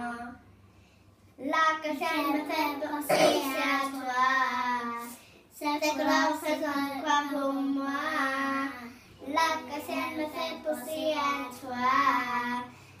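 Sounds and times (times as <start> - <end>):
young girls singing unaccompanied: 1.4 - 12.8.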